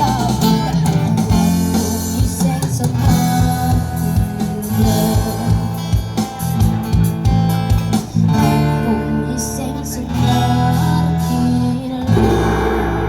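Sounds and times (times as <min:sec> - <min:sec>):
acoustic guitar strumming: 0:00.0 - 0:13.0
strong bass: 0:00.0 - 0:13.0.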